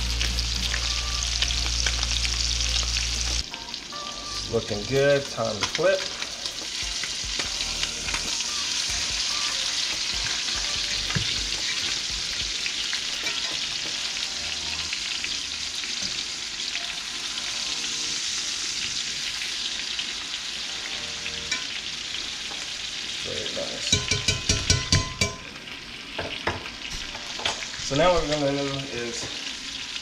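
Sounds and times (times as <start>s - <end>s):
fish sizzling in butter: 0.0s - 30.0s.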